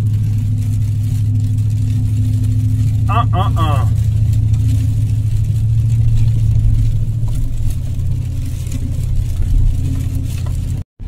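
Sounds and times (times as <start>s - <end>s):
engine and road drone: 0.0s - 10.9s.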